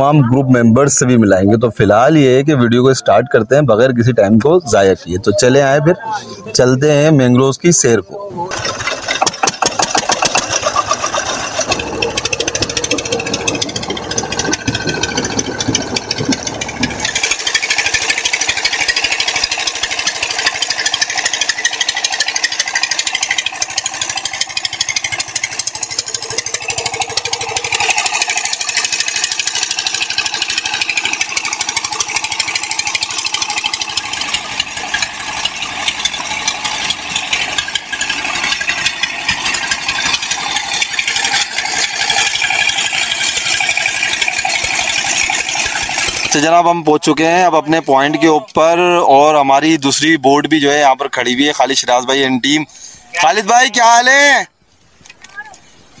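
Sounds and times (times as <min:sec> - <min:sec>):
boat engine clattering: 0:00.0 - 0:56.0.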